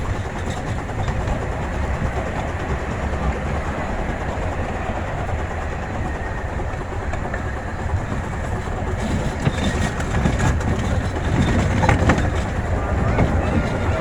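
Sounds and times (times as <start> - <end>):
train cars rumbling and rattling: 0.0 - 14.0.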